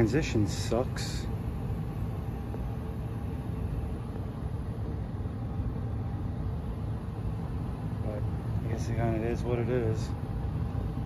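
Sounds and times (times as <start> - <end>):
faint steady hum: 0.0 - 11.0
furnace blower rumble: 0.0 - 11.0.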